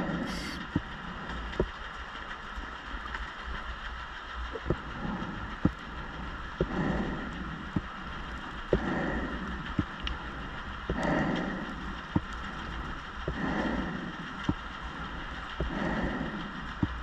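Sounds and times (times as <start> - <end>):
muffled underwater hiss: 0.0 - 17.0.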